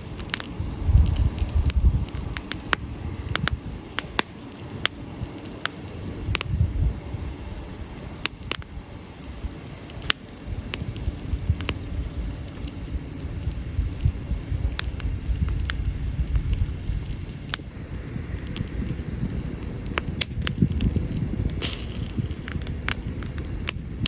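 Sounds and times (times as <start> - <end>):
campfire pops and crackles: 0.0 - 24.0
low fire rumble: 0.0 - 24.0.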